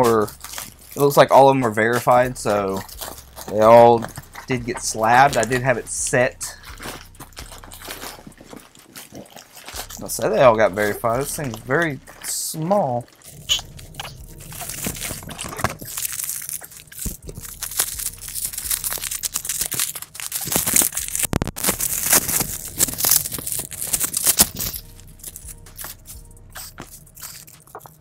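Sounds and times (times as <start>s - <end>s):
bubble wrap crackling: 0.0s - 28.0s.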